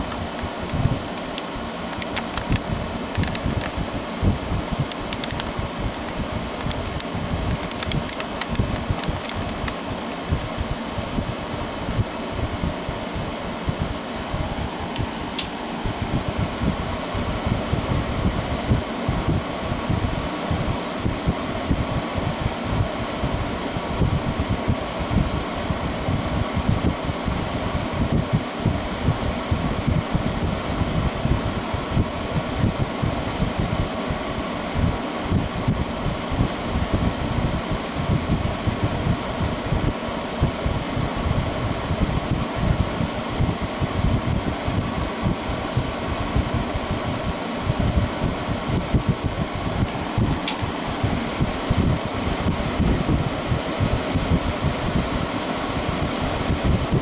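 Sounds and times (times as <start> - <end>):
window air conditioner running: 0.0 - 57.0.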